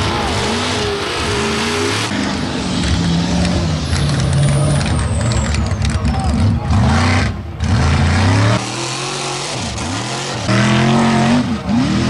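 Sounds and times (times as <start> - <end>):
diesel truck engines revving: 0.0 - 12.0.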